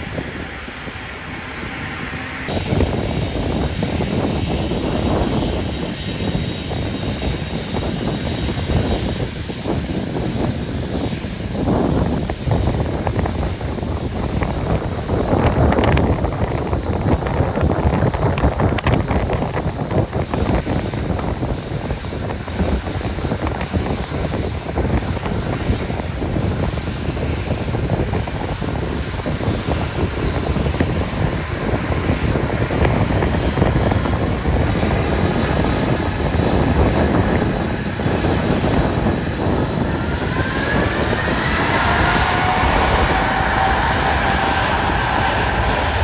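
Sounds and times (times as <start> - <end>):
jet airliner engine noise: 0.0 - 46.0
rising turbine whine: 0.0 - 46.0
wind buffeting microphone: 0.0 - 46.0.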